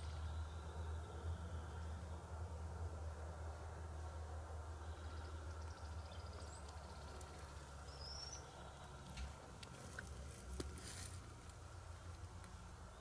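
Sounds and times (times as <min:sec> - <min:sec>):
songbird chirp: 0:00.0 - 0:13.0.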